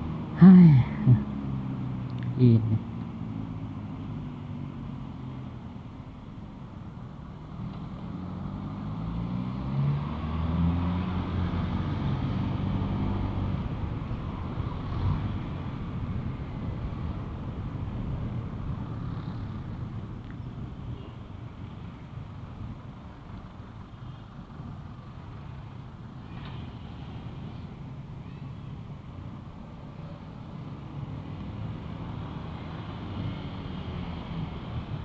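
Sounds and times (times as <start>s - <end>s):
rush of riding noise: 5.5s - 35.0s.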